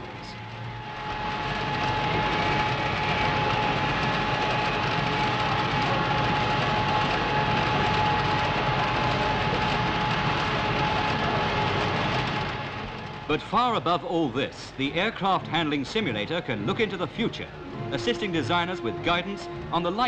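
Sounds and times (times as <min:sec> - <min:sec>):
constant high whine: 0:00.0 - 0:20.0
steady mechanical roar: 0:00.0 - 0:20.0.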